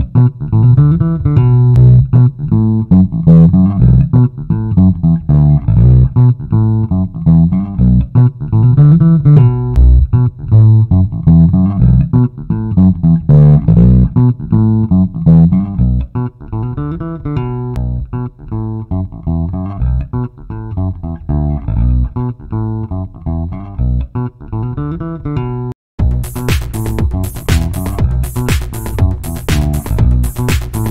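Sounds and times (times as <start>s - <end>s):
funk electric bass loop: 0.0s - 30.9s.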